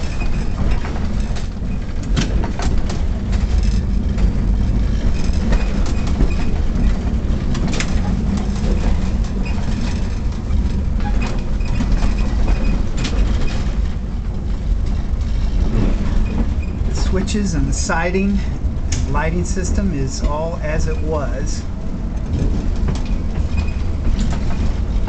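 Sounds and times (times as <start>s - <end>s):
wheels clicking over rails: 0.0s - 17.3s, 20.2s - 25.0s
streetcar rumbling: 0.0s - 25.0s.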